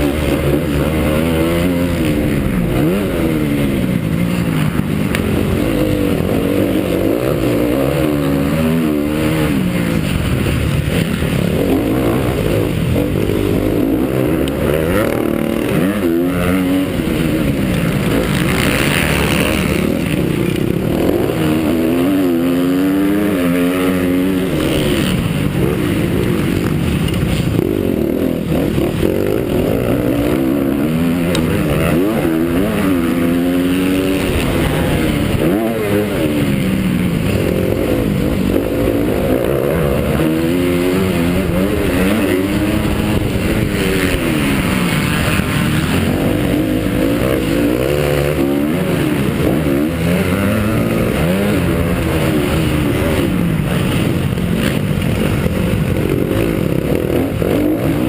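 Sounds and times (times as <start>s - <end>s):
motorbike engine racing: 0.0s - 58.0s.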